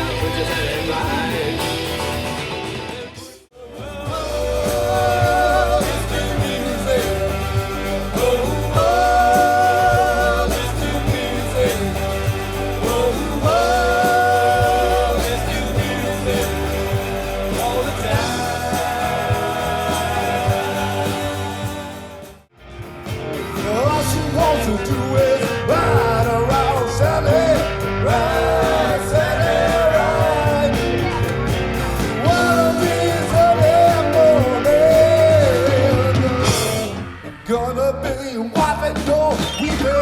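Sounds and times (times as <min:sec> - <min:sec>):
live rock band playing: 0:00.0 - 0:37.7.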